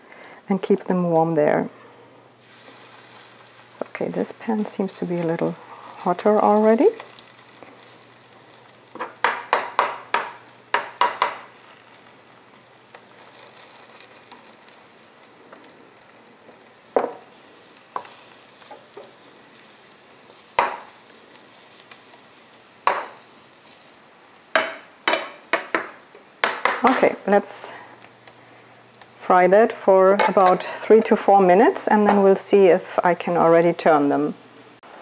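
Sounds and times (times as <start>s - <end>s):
batter sizzling in hot oil: 2.4s - 35.0s.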